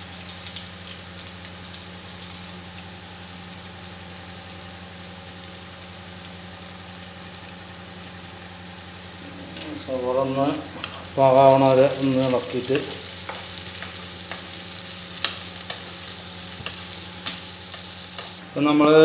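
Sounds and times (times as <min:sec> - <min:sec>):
onions frying in oil: 0:00.0 - 0:19.0
low steady hum: 0:00.1 - 0:19.0.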